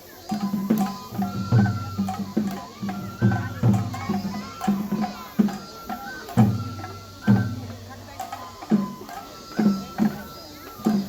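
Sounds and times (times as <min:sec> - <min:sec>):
drum strikes: 0:00.2 - 0:11.0
high held melody: 0:00.3 - 0:11.0.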